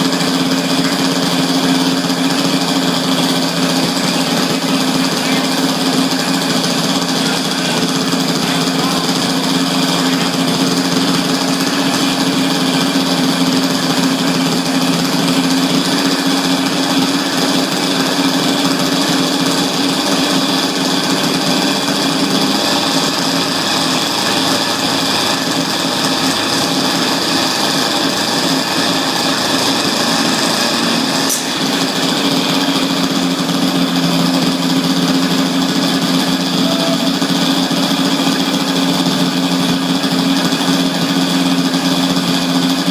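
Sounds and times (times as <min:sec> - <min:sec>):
small gasoline engine running: 0:00.0 - 0:42.9.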